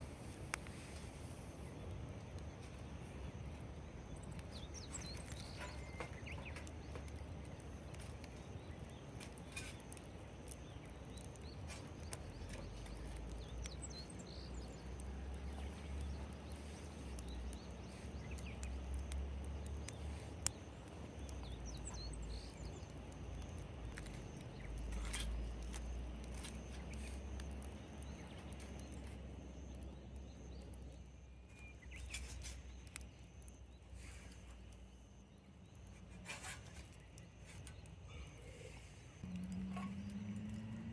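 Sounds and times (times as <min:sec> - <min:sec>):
campfire crackling and popping: 0:00.0 - 0:40.9
faint bird chirps: 0:03.9 - 0:40.6.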